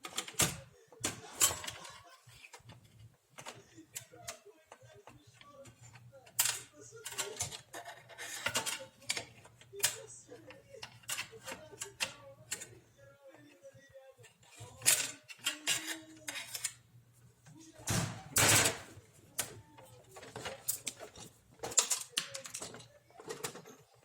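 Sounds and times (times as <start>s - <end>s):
plastic parts and tools clattering: 0.0s - 12.7s, 14.3s - 16.8s, 17.8s - 24.0s.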